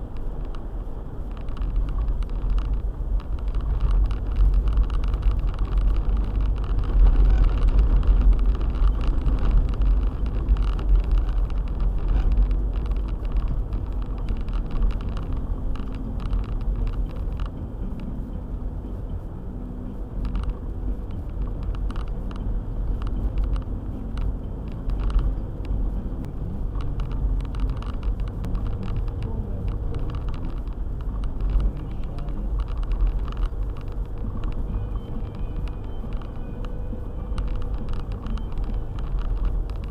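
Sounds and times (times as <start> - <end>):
car engine and tyres rumbling: 0.0 - 39.9
small knocks and ticks: 1.3 - 18.2, 20.2 - 39.9.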